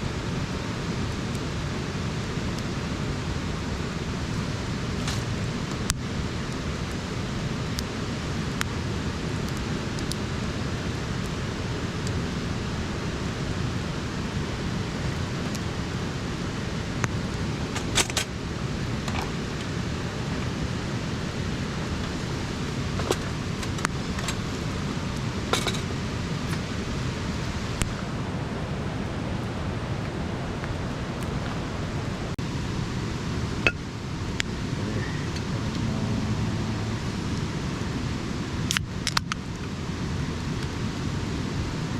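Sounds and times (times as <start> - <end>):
campfire crackling and popping: 0.0 - 41.6.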